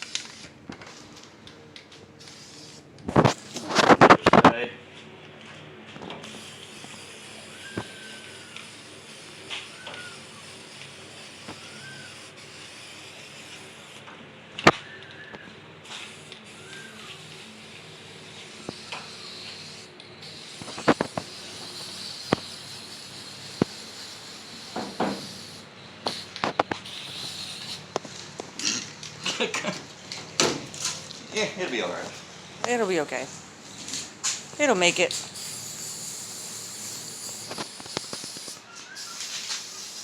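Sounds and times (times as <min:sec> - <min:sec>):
paint spray hiss: 0:00.0 - 0:01.2, 0:01.8 - 0:04.2, 0:06.2 - 0:31.2, 0:33.7 - 0:40.0.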